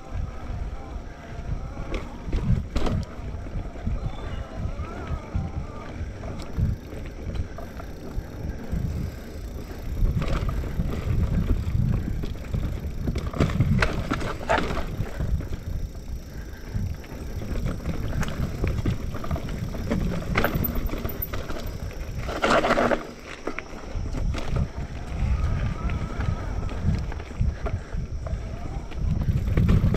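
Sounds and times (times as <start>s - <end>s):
bike rattling over bumps: 0.0s - 29.9s
bike tyre and wind rumble: 0.0s - 29.9s.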